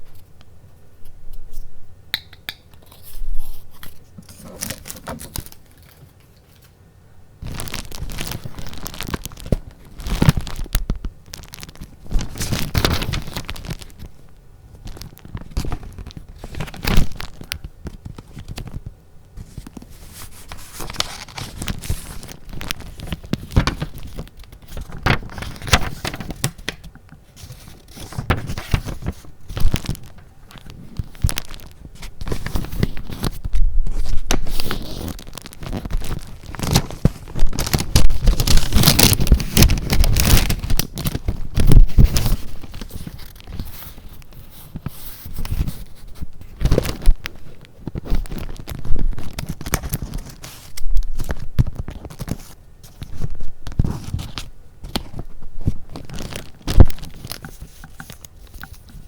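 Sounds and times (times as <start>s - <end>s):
paper rustling and crinkling: 2.8s - 6.8s, 7.4s - 59.0s.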